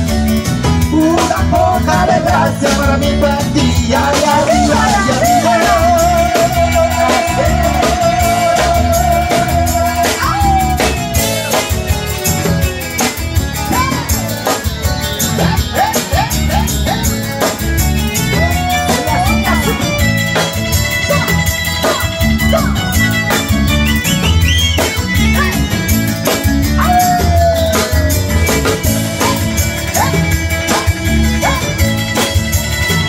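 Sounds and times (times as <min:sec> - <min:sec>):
band playing upbeat party music: 0:00.0 - 0:33.0.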